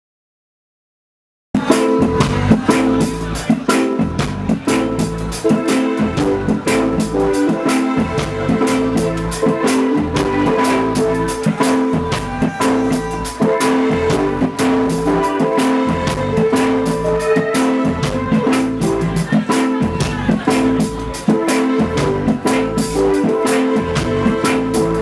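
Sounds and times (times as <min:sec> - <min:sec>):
bass notes: 0:01.6 - 0:25.0
drum kit beat: 0:01.6 - 0:25.0
electric guitar: 0:01.6 - 0:25.0
held keyboard notes: 0:01.6 - 0:25.0.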